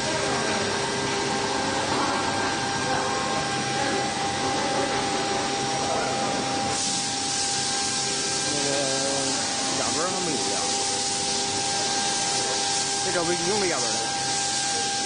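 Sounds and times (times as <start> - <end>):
cnc router spindle whine: 0.0 - 15.0.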